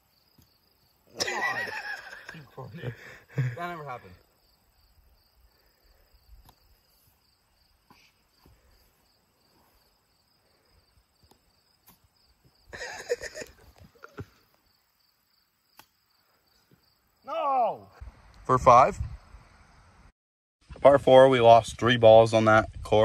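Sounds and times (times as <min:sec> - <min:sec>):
faint crickets chirping: 0:00.0 - 0:20.1.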